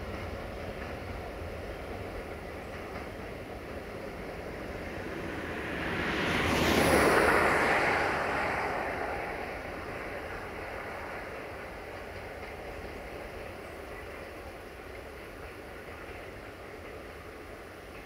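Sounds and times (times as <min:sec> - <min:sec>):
freight wagons rolling on track: 0:00.0 - 0:18.0.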